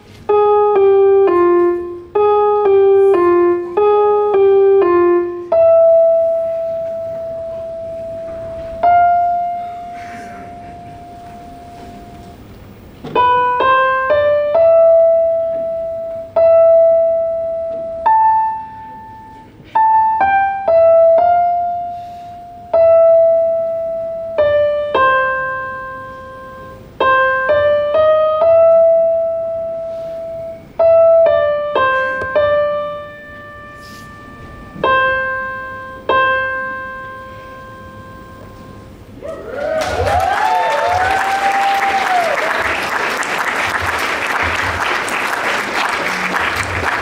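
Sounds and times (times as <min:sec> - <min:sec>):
electronic keyboard piano melody: 0:00.0 - 0:39.2, 0:43.4 - 0:47.0.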